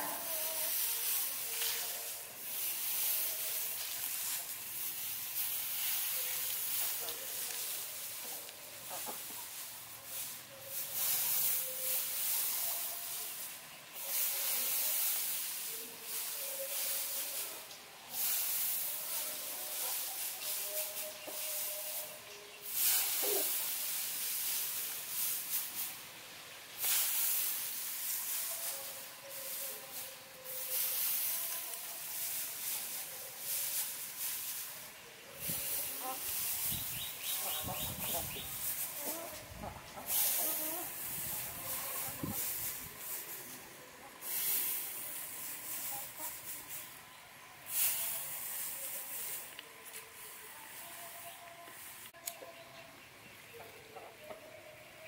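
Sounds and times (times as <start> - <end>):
dry straw rustling: 0.0 - 53.6.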